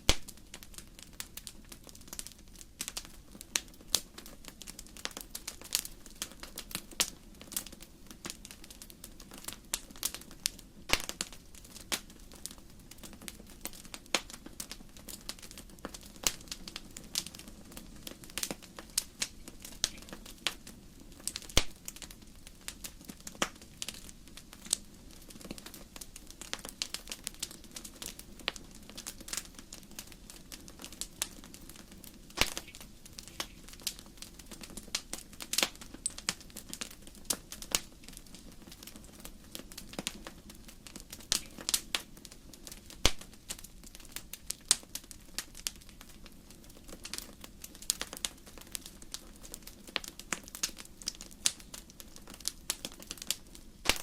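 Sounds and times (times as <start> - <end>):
firewood popping and snapping: 0.1 - 54.0.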